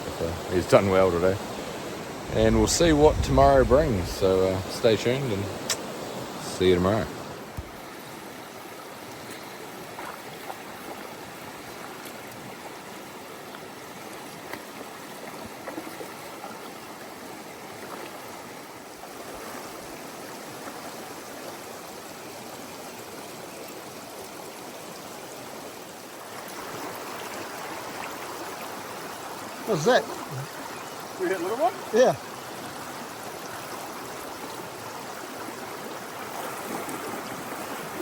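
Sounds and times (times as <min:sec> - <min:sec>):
river water rushing: 0:00.0 - 0:02.9, 0:03.7 - 0:38.0.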